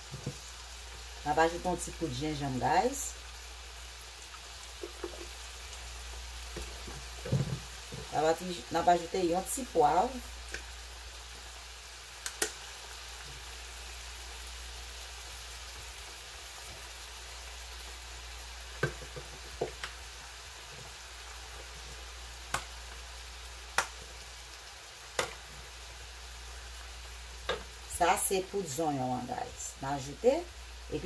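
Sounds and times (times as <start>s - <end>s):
vegetables sizzling in a pot: 0.0s - 31.0s.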